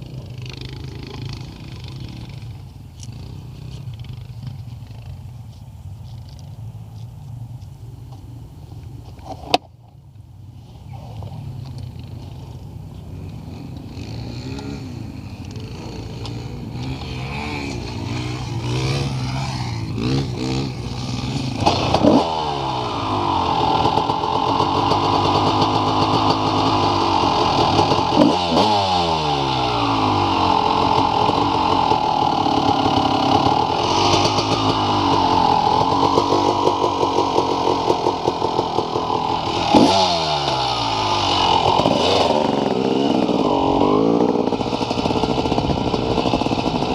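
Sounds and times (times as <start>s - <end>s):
motorcycle engine revving: 0.0s - 6.8s, 11.4s - 46.9s.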